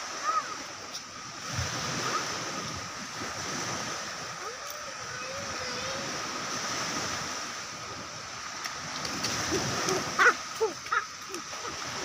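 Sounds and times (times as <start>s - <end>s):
waves washing on rocky shore: 0.0s - 12.0s.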